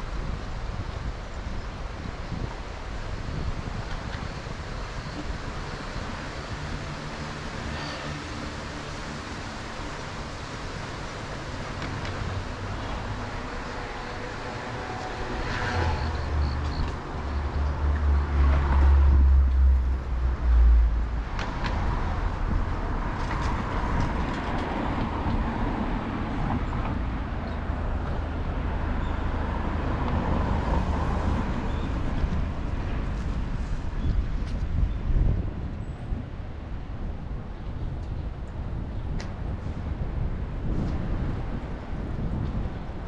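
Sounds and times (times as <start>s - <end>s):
city street traffic: 0.0s - 43.0s
road noise: 0.0s - 43.0s.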